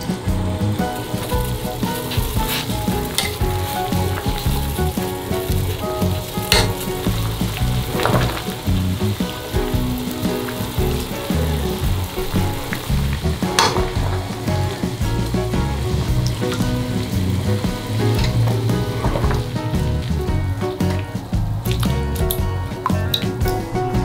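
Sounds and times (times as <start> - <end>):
water boiling in a pot: 0.0 - 24.0.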